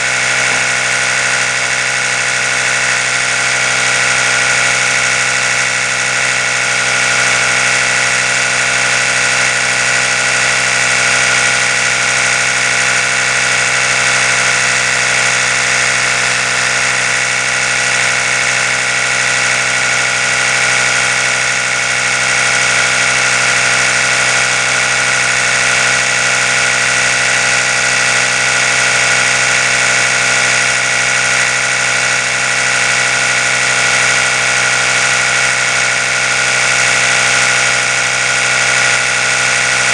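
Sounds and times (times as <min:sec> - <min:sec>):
electric toothbrush motor hum: 0:00.0 - 0:39.9.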